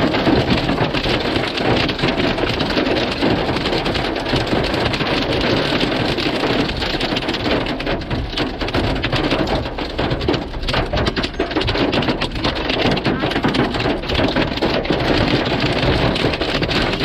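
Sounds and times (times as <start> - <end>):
hail pelting down: 0.0 - 17.0.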